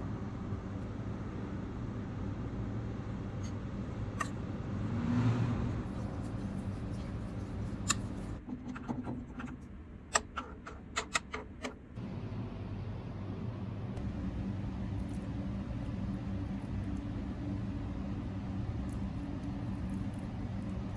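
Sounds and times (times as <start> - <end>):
low hum: 0.0 - 8.4, 12.0 - 20.9.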